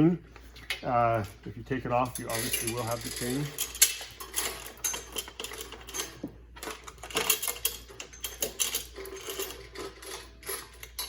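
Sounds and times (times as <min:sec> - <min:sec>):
bicycle chain clinking and rattling: 0:02.0 - 0:11.0.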